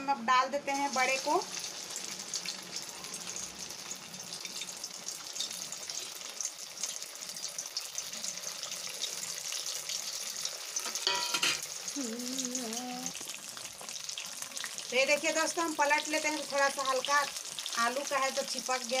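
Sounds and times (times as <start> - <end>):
deep-frying crackling sizzle: 0.0 - 19.0.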